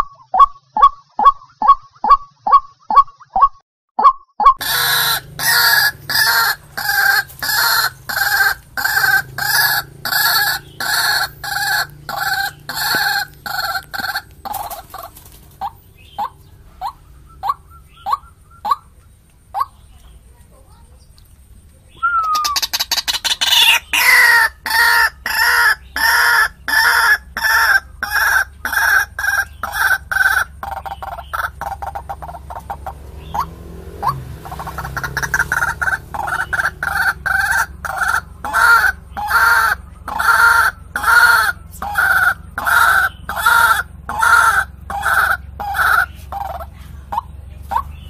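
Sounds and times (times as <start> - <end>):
waterhen croaking calls: 0.0 - 19.8, 22.0 - 48.0.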